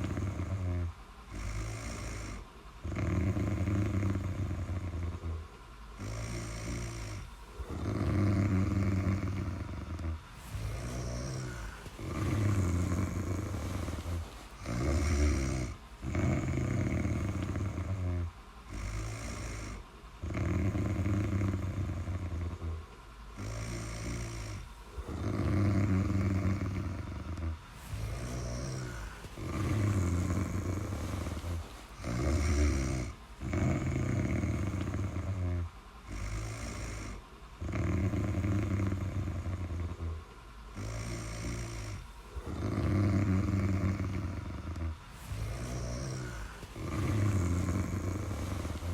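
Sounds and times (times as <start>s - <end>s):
loud low snoring: 0.0s - 48.9s
quiet breaths: 0.0s - 48.9s.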